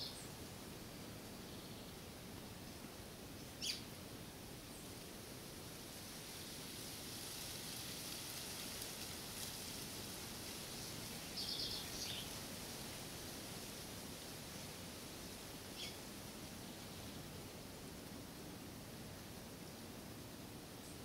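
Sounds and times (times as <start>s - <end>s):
faint outdoor background hiss: 0.0s - 21.0s.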